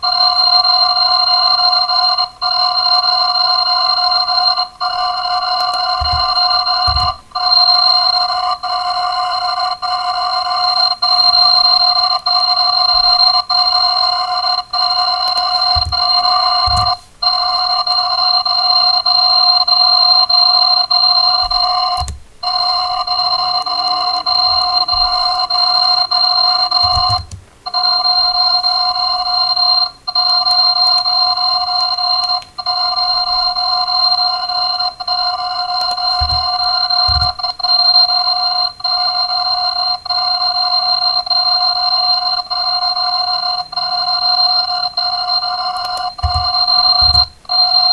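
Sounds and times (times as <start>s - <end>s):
shrill electronic alarm tones: 2.5s - 39.5s, 41.8s - 47.9s.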